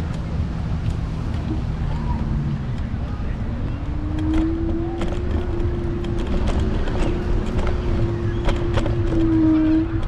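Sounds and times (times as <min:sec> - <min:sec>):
road rumble: 0:00.0 - 0:10.0.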